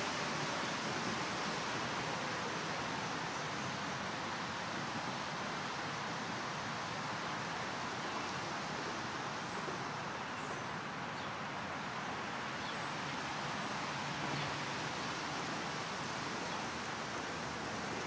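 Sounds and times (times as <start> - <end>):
distant road traffic: 0.0 - 18.0.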